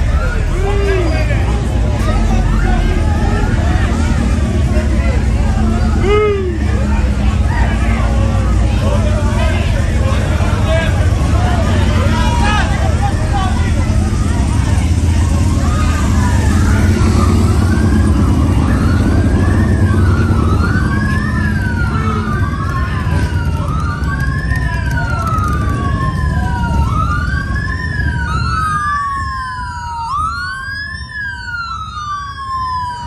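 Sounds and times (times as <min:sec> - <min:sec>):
car engines rumbling in traffic: 0:00.0 - 0:33.0
police sirens: 0:00.0 - 0:33.0.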